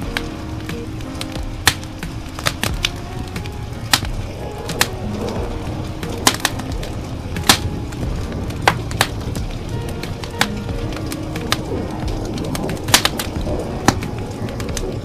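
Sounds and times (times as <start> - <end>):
rain hissing: 0.0 - 15.0
wood fire crackling and popping: 0.0 - 15.0.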